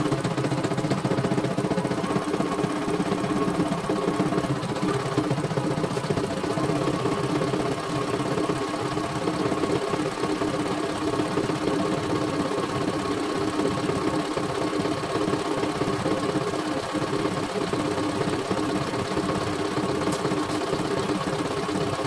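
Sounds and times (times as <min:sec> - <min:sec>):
embroidery machine needle running: 0:00.0 - 0:22.0.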